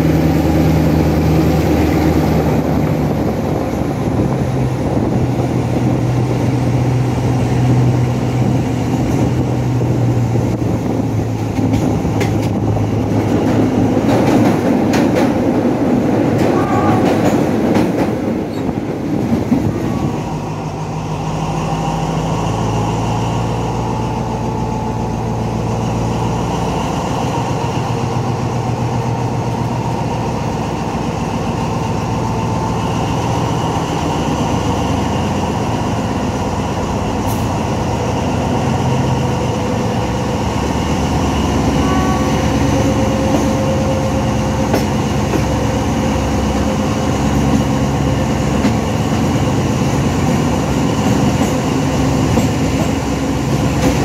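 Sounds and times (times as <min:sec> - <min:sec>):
diesel locomotive engine working: 0:00.0 - 0:54.0
train wheels on rail: 0:00.0 - 0:54.0.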